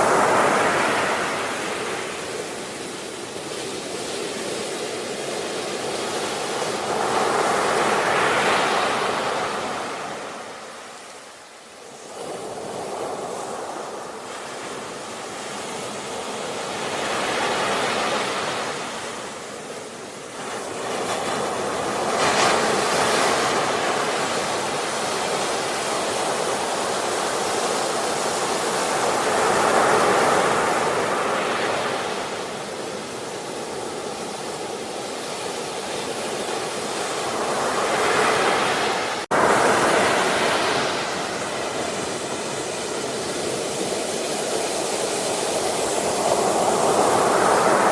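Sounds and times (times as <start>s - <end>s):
sea waves breaking: 0.0s - 47.9s.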